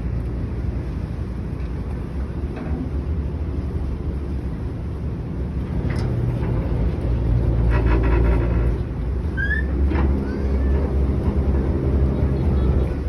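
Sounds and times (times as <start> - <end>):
ferry engine humming: 0.0 - 13.0.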